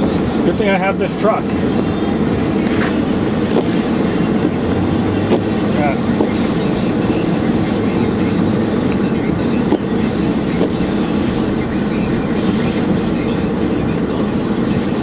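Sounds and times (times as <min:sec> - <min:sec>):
truck engine running: 0:00.0 - 0:15.0
tyre and road noise: 0:00.0 - 0:15.0.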